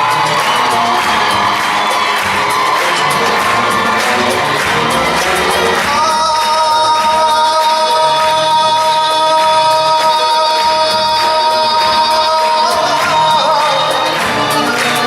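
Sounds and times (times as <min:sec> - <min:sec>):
light rhythmic accompaniment: 0:00.0 - 0:15.0.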